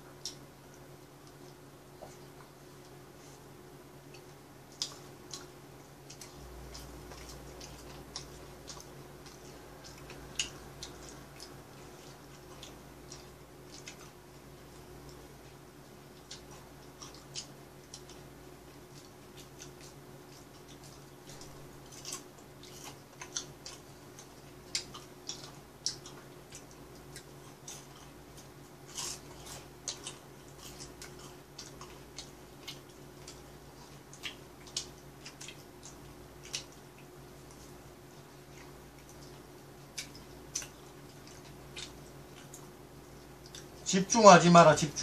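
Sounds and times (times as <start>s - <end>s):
crisp chewing crackles: 0.1s - 45.0s.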